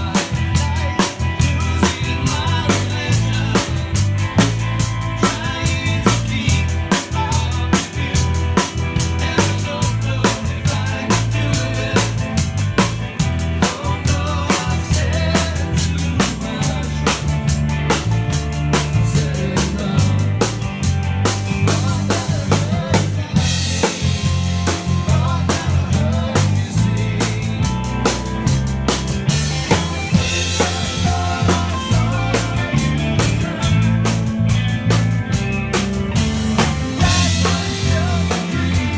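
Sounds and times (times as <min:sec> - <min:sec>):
bass line: 0:00.0 - 0:38.9
drum kit beat: 0:00.0 - 0:38.9.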